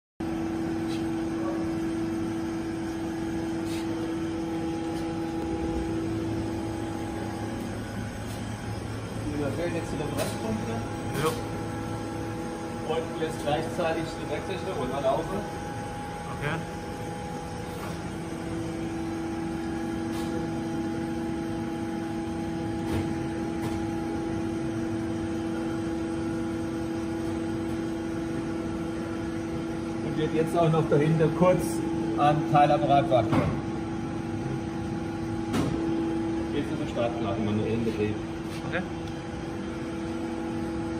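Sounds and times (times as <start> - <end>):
steady machine hum: 0.2 - 40.9.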